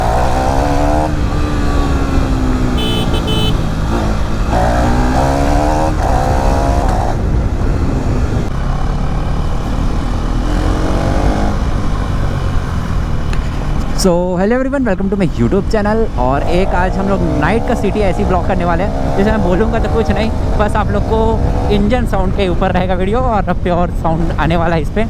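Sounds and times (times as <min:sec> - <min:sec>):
motorcycle engine revving through gears: 0:00.0 - 0:14.2, 0:15.3 - 0:22.5.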